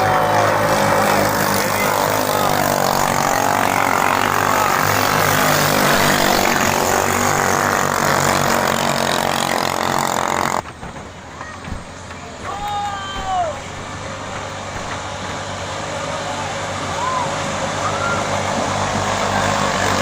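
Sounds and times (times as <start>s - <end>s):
boat engines running flat out: 0.0s - 20.0s.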